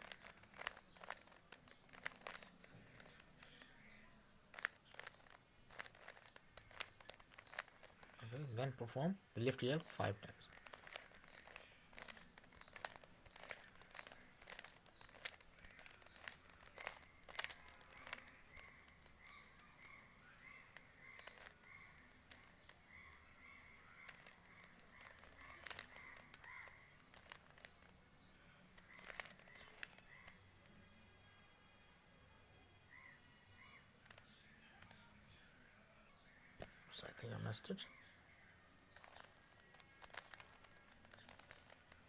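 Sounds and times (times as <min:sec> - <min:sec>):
plastic cube clicks and clacks: 0:00.0 - 0:08.8, 0:09.4 - 0:30.4, 0:33.6 - 0:35.2, 0:38.9 - 0:42.0
bird chirping: 0:00.0 - 0:42.0.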